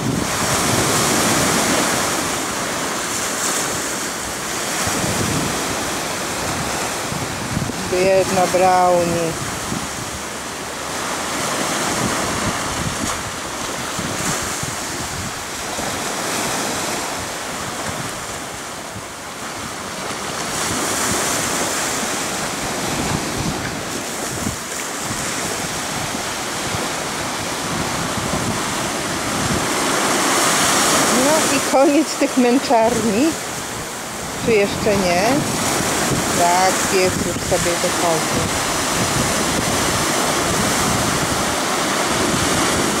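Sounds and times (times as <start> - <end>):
small waves breaking: 0.0 - 43.0
wind buffeting microphone: 0.0 - 43.0.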